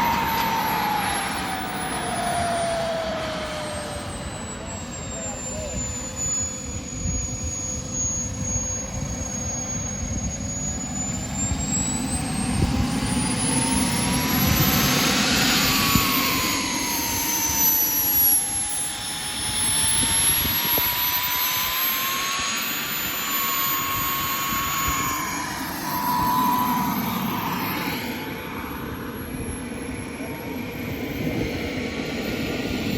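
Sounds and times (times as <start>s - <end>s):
jet turbine engine whining: 0.0s - 32.9s.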